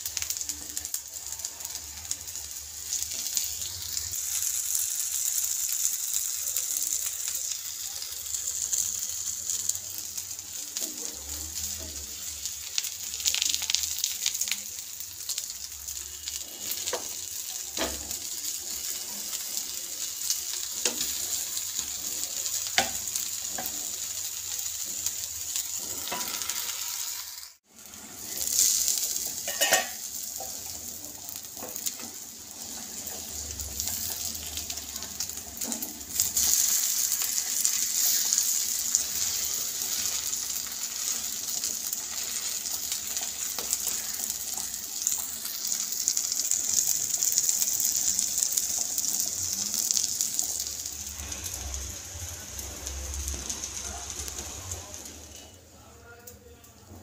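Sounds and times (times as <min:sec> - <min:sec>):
food sizzling on griddle: 0:00.0 - 0:57.0.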